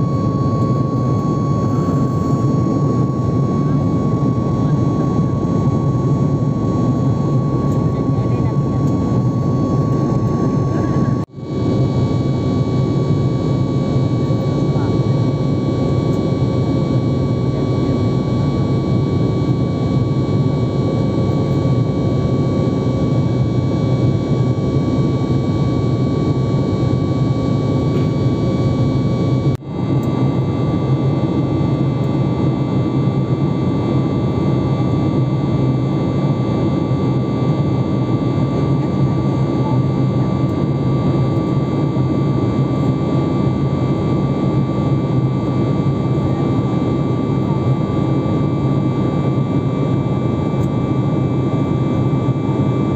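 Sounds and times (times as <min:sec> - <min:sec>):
engine and airflow rumble: 0:00.0 - 0:52.9
thin steady whine: 0:00.0 - 0:52.9.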